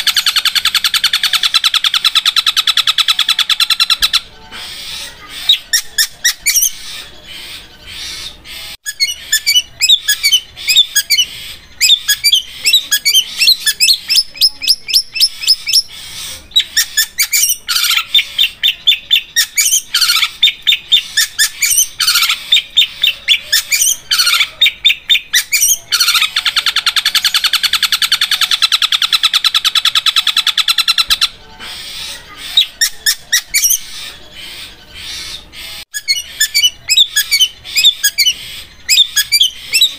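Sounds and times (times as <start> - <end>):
shrike chattering song: 0.0 - 39.9.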